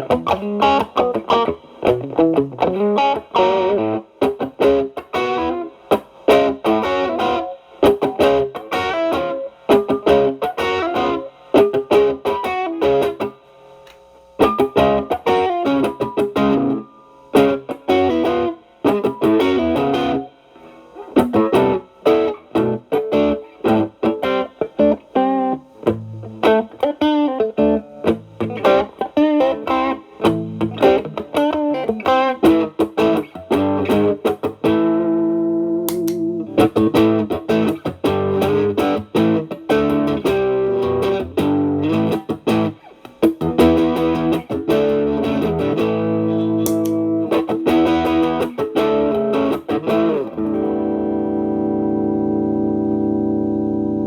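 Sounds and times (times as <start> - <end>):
overdriven electric guitar lead: 0.0 - 54.0.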